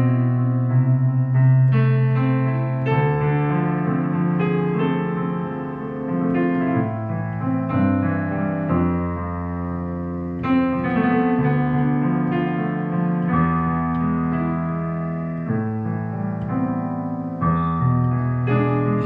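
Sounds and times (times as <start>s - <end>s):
keyboard playing slow chords: 0.0s - 19.0s.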